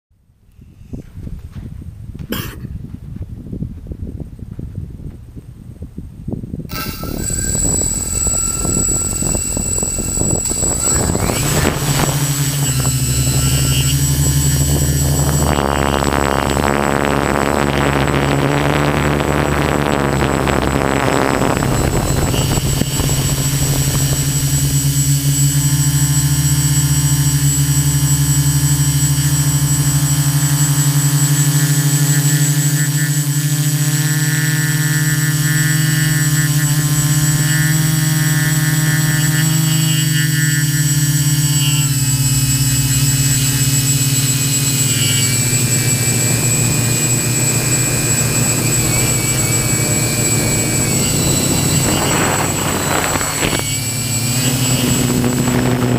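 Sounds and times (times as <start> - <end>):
drone propellers whining: 6.7 - 55.9.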